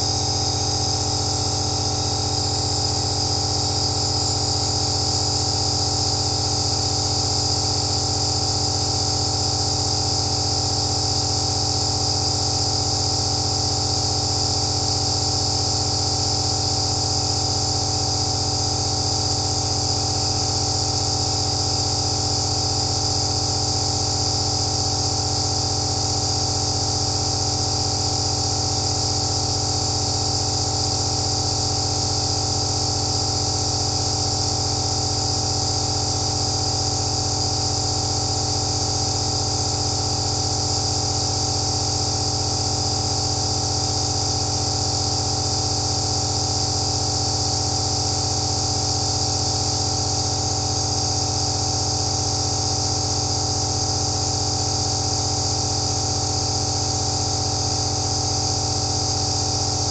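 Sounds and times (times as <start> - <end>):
nebulizer humming and whining: 0.0 - 56.4.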